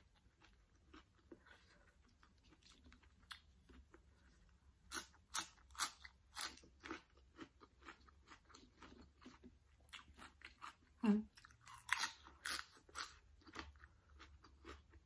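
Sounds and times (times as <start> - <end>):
person chewing crisp food: 0.0 - 15.0.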